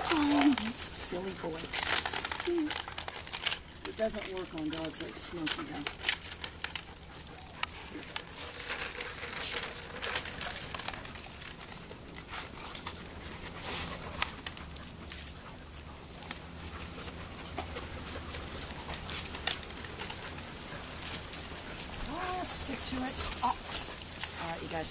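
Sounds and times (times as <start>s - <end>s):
dogs panting: 0.0s - 24.9s
paws clicking on pavement: 0.0s - 24.9s.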